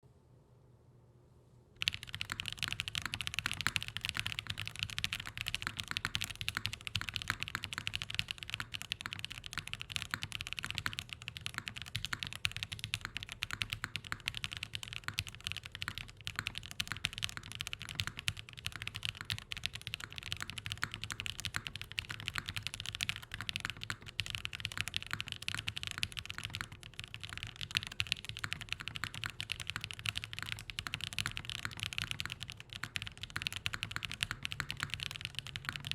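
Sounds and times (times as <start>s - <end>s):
mechanical keyboard typing: 1.8s - 35.9s.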